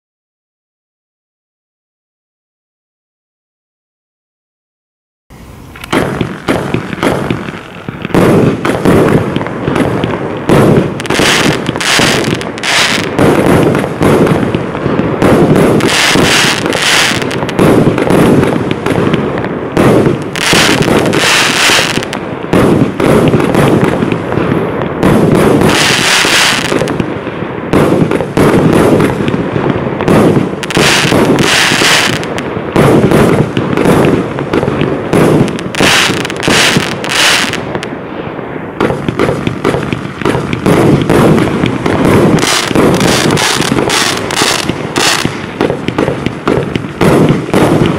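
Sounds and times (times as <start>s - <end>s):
firework shells launching and bursting: 5.3s - 38.0s, 38.7s - 47.9s
firework hissing: 5.3s - 47.9s.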